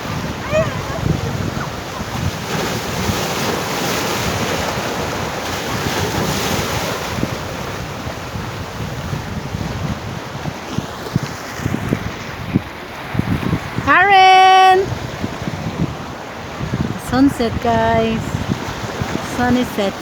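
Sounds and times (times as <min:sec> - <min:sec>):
sea waves washing in: 0:00.0 - 0:20.0
wind buffeting microphone: 0:00.0 - 0:20.0.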